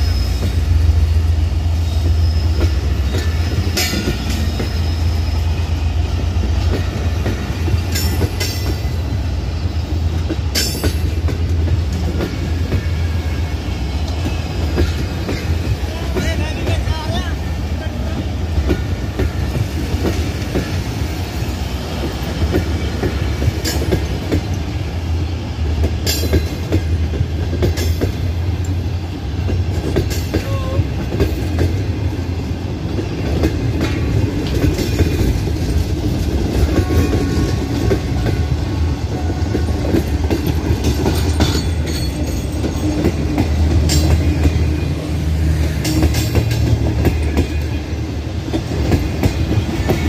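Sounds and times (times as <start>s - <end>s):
clickety-clack over rail joints: 0.0s - 50.0s
train wheels rumbling on rail: 0.0s - 50.0s.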